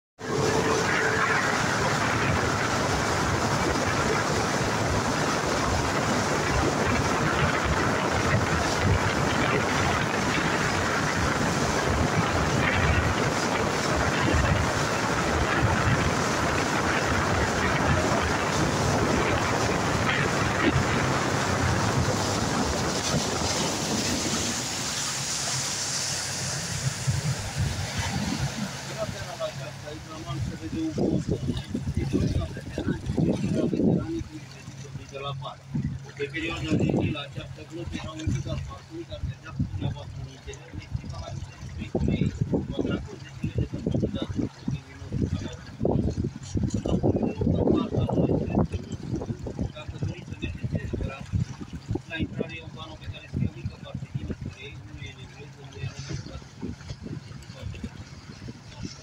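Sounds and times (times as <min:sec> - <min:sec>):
boat motor running: 0:00.2 - 0:59.0
low engine hum: 0:00.2 - 0:59.0
water rushing along hull: 0:00.2 - 0:59.0
wind buffeting microphone: 0:00.2 - 0:59.0.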